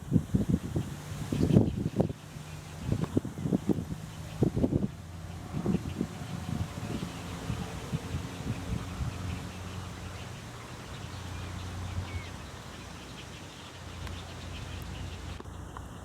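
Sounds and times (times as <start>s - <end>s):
birds calling high: 0.3s - 16.0s.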